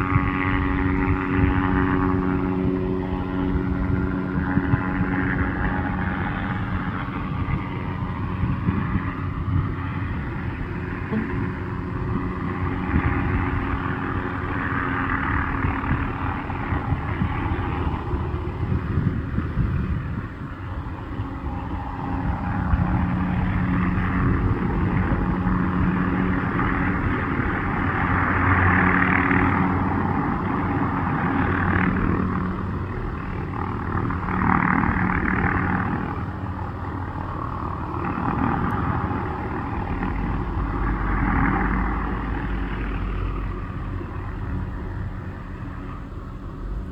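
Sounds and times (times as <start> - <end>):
helicopter engine and rotors droning: 0.0 - 46.9.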